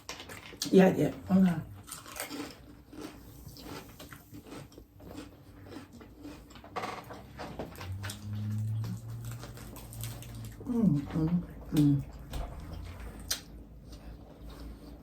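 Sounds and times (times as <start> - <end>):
person chewing a sandwich: 1.6 - 15.0.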